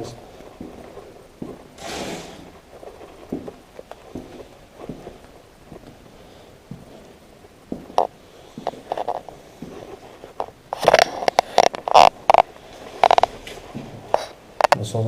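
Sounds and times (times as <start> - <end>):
footsteps on gritty floor: 0.0 - 14.4.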